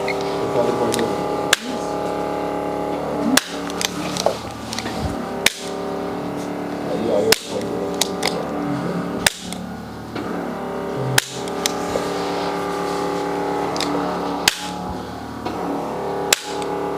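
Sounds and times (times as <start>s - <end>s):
background music with sustained tones: 0.0s - 16.9s.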